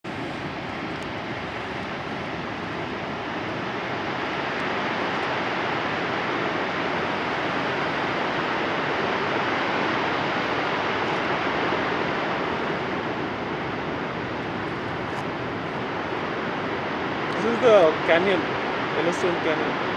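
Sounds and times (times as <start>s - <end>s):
large waterfall roaring: 0.1s - 19.9s.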